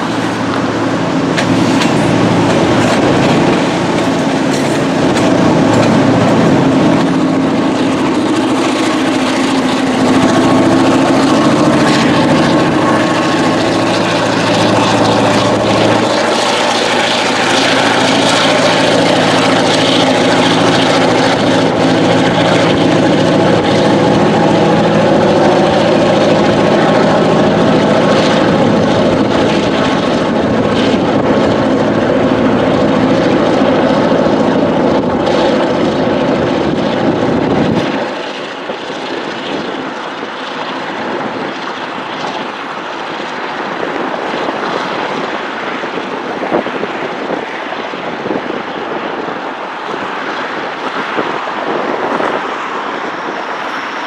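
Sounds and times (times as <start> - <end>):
train wheels rolling on rails: 0.0 - 45.0
locomotive engine roaring: 0.0 - 54.0.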